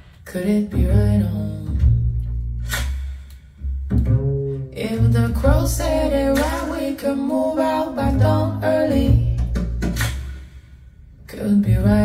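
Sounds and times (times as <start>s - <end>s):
deep bass notes: 0.5s - 12.0s.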